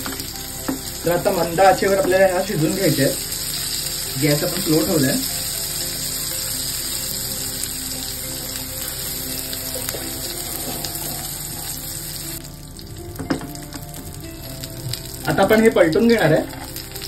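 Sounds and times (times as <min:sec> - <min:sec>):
crabs sizzling in oil: 0:00.0 - 0:17.0.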